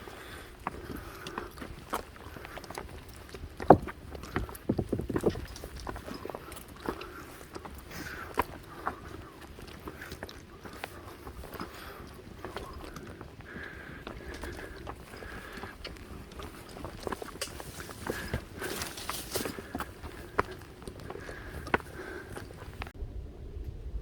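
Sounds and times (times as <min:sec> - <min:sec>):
footsteps on trail: 0:00.0 - 0:23.0.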